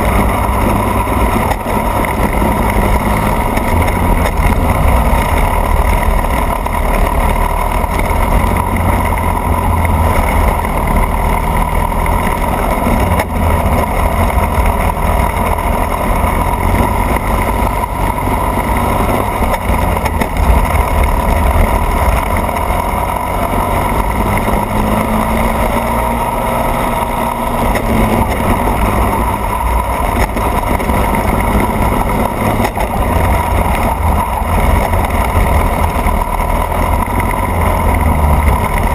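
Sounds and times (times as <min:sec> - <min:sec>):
racing kart engine running hard: 0:00.0 - 0:38.9.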